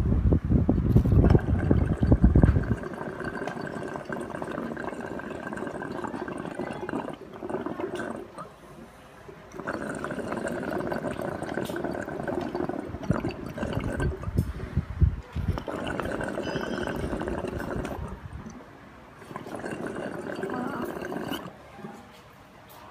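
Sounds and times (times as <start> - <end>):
water bubbling in bong: 0.9 - 21.6.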